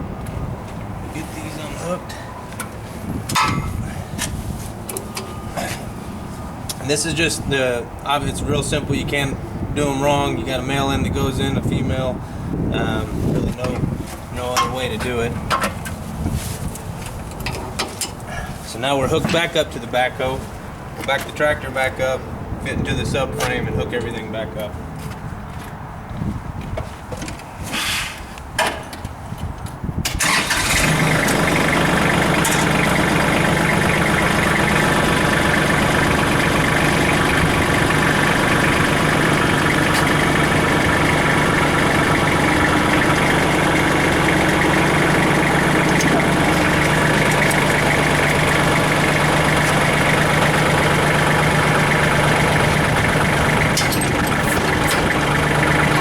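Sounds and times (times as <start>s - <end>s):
tractor diesel engine running: 0.0s - 25.8s, 30.1s - 56.0s.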